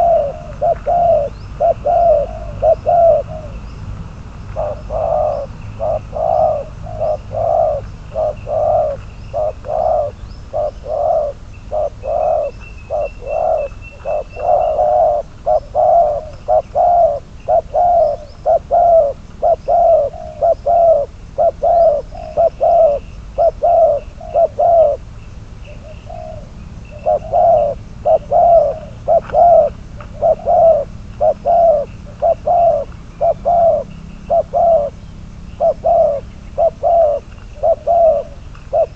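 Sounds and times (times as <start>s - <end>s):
dove cooing: 0.0s - 38.9s
small birds chirping faintly: 0.0s - 38.9s.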